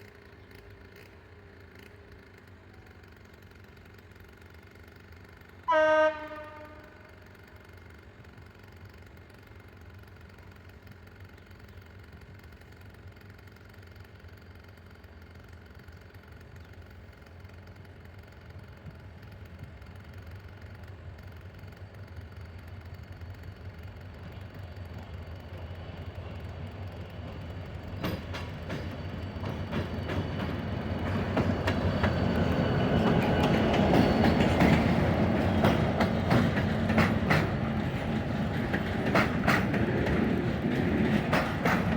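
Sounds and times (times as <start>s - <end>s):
locomotive engine rumble: 0.0s - 41.9s
train wheels clacking over rail joints: 0.0s - 41.9s.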